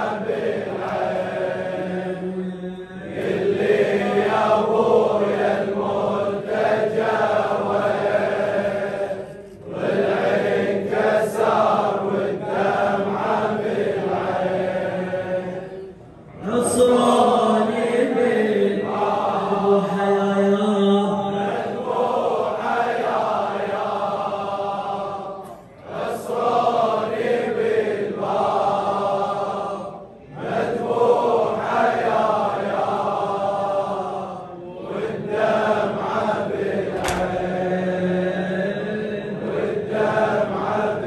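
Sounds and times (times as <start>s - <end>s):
man reciting on a microphone: 0.0s - 41.0s
men chanting a lament: 0.0s - 41.0s.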